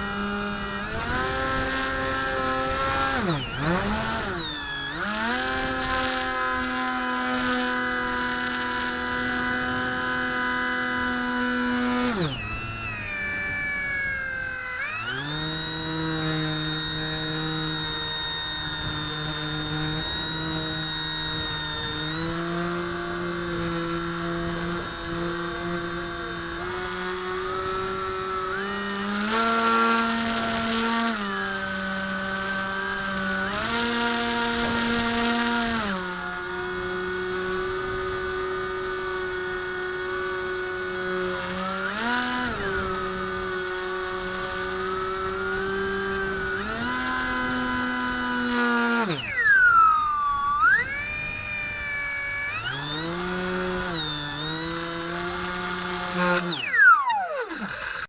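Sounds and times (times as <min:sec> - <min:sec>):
model airplane motor and propeller: 0:00.0 - 0:58.0.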